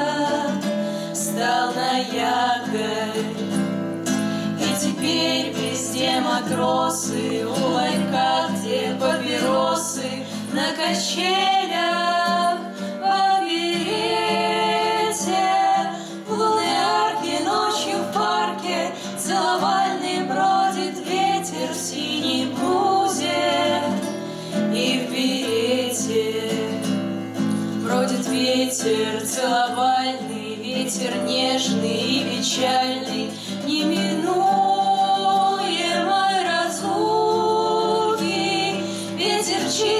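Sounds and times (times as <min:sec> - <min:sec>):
strummed acoustic guitar: 0:00.0 - 0:39.9
women singing together: 0:00.0 - 0:39.9.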